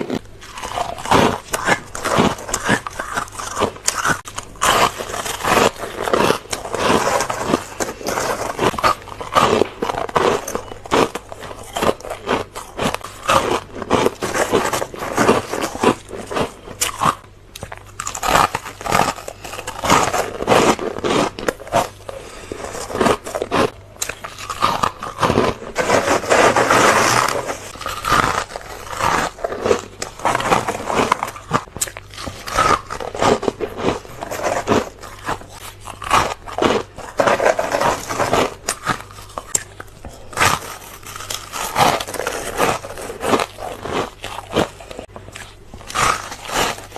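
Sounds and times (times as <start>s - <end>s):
ice being crunched by teeth: 0.0s - 46.9s.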